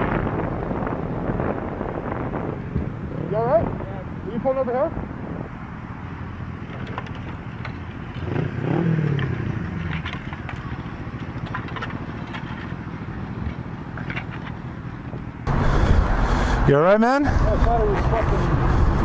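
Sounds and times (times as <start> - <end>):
motor vehicles humming: 0.0 - 19.0.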